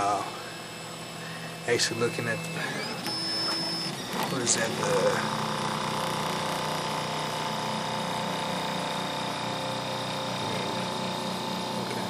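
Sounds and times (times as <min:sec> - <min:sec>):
printer motors whining: 0:00.0 - 0:12.0.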